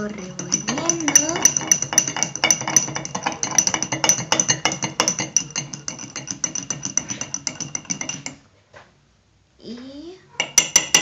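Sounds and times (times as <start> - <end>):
metal spoon clinking in glass: 0.0 - 8.4, 10.4 - 11.0.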